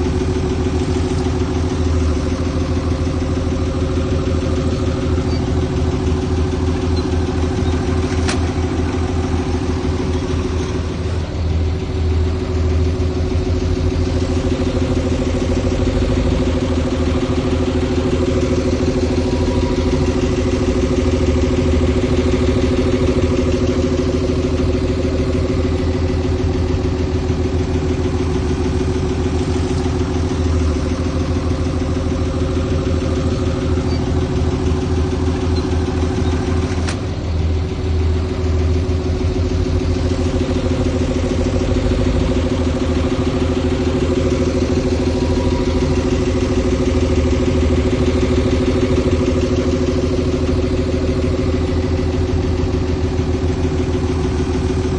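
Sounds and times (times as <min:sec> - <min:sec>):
diesel machinery engine running: 0:00.0 - 0:54.9.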